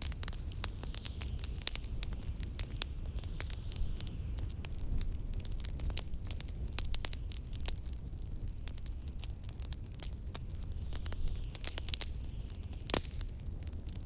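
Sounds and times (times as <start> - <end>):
blizzard wind rumble: 0.0 - 14.0
wood fire crackling: 0.0 - 14.0.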